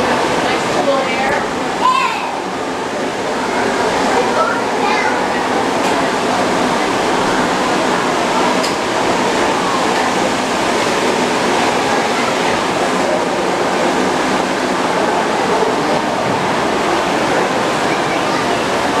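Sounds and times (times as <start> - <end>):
steady loud rushing noise: 0.0 - 19.0.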